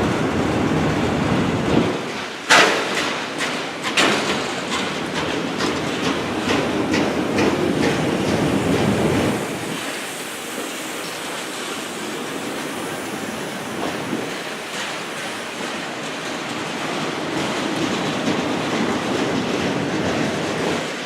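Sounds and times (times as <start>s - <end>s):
train wheels clacking over rail joints: 0.0s - 21.0s.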